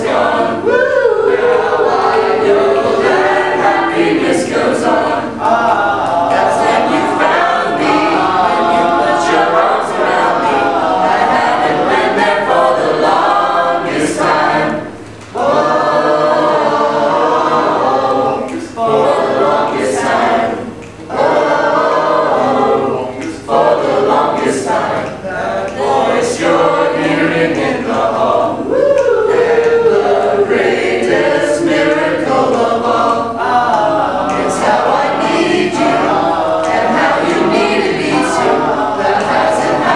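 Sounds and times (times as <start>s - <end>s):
choir singing a cappella: 0.0s - 39.9s.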